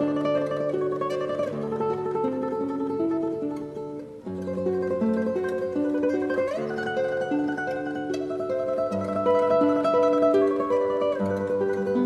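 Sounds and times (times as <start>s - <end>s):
classical guitar tremolo melody: 0.0s - 12.0s.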